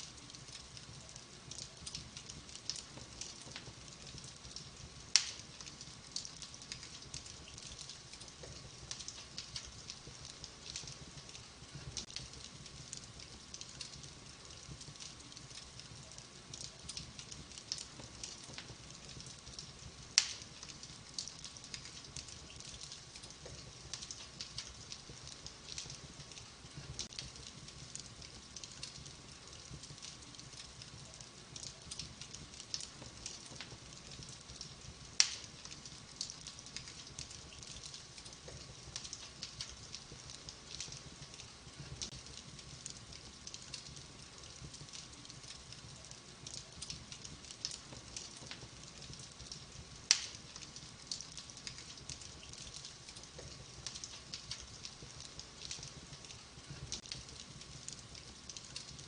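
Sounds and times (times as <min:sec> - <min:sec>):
loud fire pops: 0:00.0 - 0:59.0
wood fire crackling: 0:00.0 - 0:59.0.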